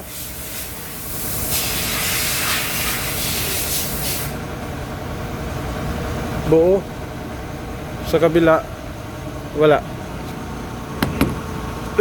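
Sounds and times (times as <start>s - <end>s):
diesel engine idling: 0.3s - 12.0s.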